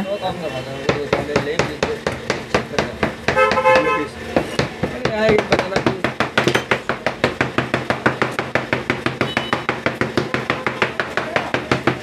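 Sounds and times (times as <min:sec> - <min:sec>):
fingertips patting dough: 0:00.9 - 0:12.0.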